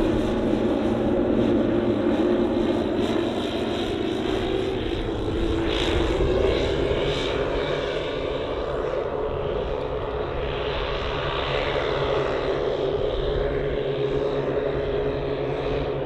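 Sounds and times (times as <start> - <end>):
model plane engines droning: 0.0 - 16.0.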